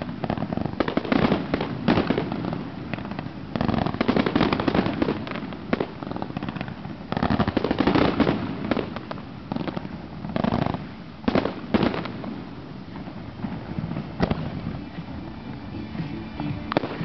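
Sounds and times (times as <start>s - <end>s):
fireworks bangs and crackling: 0.0s - 15.8s, 16.4s - 17.0s.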